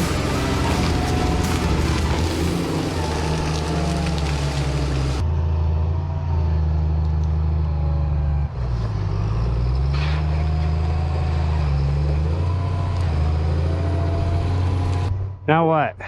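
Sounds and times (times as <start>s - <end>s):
heavy machinery engine running: 0.0s - 15.4s.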